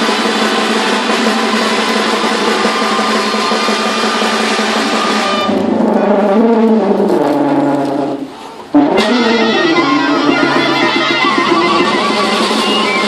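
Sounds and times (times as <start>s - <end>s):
drum roll and percussion: 0.0s - 7.6s, 8.8s - 13.0s
sustained instrument notes: 0.0s - 13.0s
wind notes sliding in pitch: 0.0s - 13.0s.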